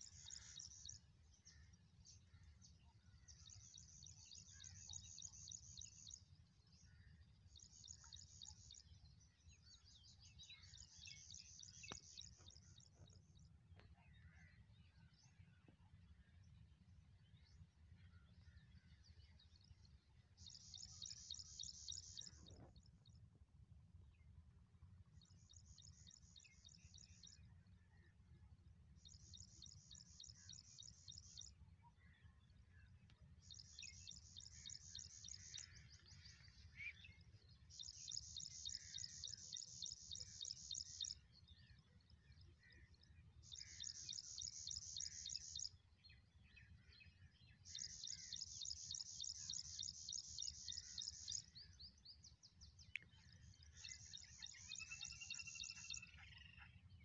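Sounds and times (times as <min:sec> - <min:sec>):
faint chirps: 0:00.0 - 0:23.3, 0:29.0 - 0:57.0.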